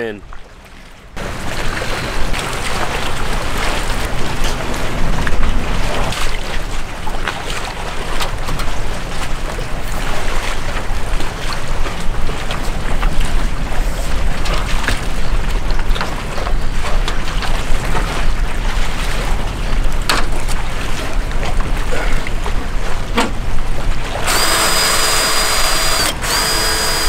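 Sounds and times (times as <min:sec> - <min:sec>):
water washing around boat: 0:00.0 - 0:27.0
wind buffeting microphone: 0:01.2 - 0:25.0.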